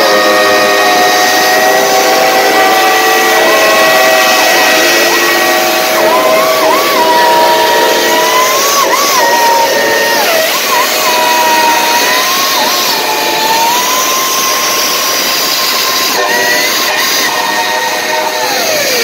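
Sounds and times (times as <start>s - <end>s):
loud steady rushing noise: 0.0s - 19.0s
steam locomotive whistle: 0.0s - 19.0s.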